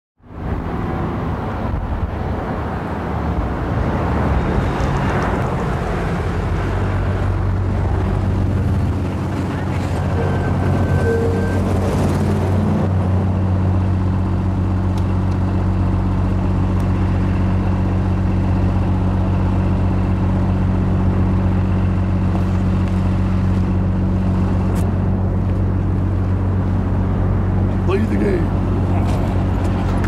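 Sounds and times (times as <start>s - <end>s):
coach engine humming: 0.3s - 30.0s.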